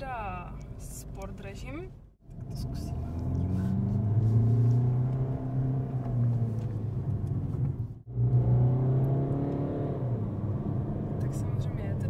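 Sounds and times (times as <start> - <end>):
diesel engine accelerating: 2.3 - 12.0.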